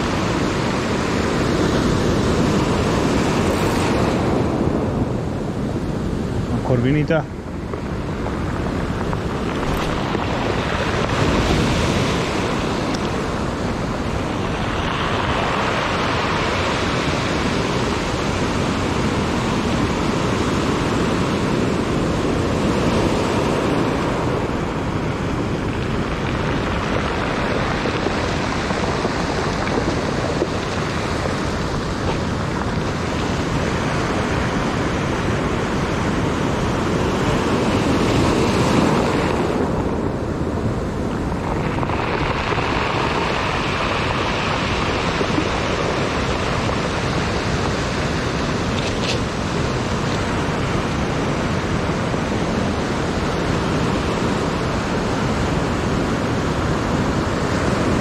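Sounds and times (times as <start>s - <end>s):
ocean surf breaking: 0.0s - 58.0s
wind on microphone: 0.0s - 58.0s.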